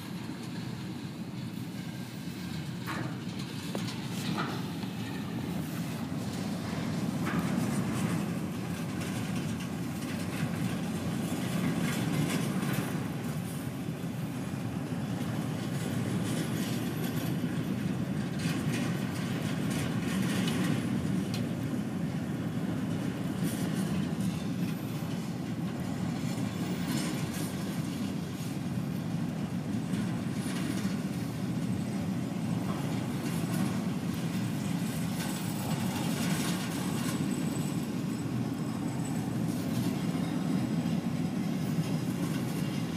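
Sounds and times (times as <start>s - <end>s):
rail clicks and clacks: 0.0s - 42.9s
train wheels rumbling on rail: 0.0s - 42.9s.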